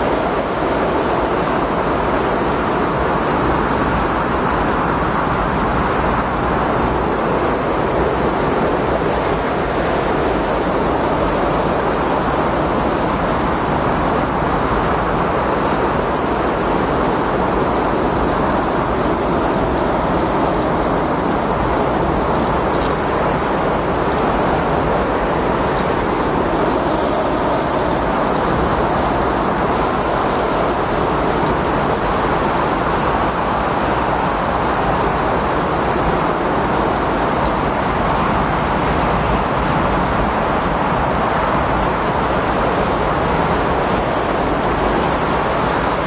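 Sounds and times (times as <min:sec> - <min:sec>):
wind blowing hard: 0:00.0 - 0:46.0.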